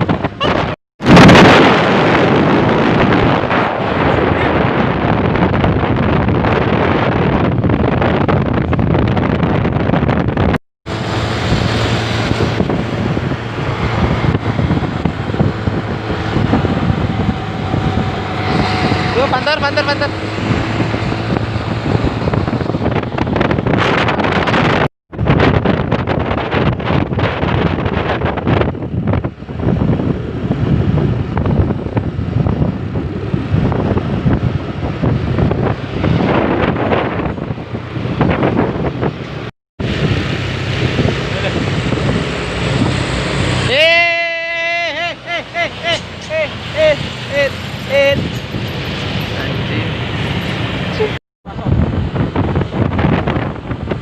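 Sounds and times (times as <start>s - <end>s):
heavy truck engine rumble: 0.0s - 43.8s, 44.6s - 54.0s
road traffic: 0.0s - 54.0s
wind noise on microphone: 0.0s - 54.0s.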